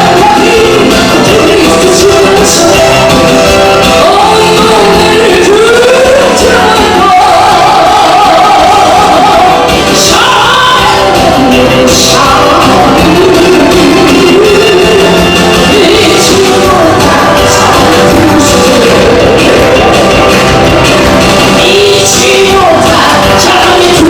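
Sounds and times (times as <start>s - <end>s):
pop song with singer and band: 0.0s - 24.0s.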